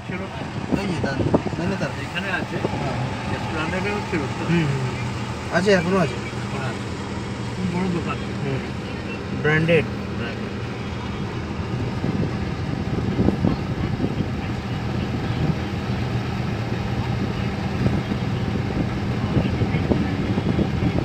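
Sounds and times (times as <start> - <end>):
city traffic noise: 0.0 - 21.0
vehicle engine hum: 0.0 - 21.0.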